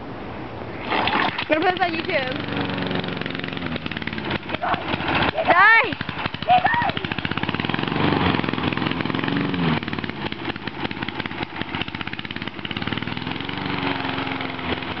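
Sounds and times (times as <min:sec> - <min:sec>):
lawn mower engine running: 0:00.8 - 0:15.0.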